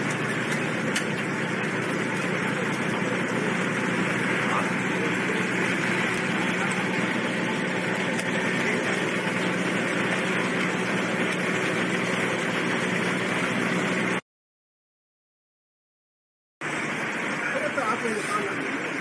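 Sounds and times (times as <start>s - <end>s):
low engine drone: 0.0s - 14.2s, 16.6s - 19.0s.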